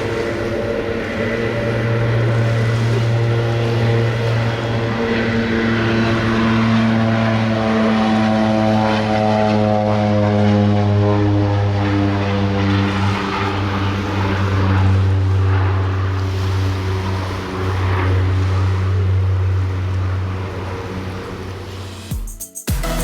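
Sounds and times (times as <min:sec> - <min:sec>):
loud propeller hum: 0:00.0 - 0:22.1.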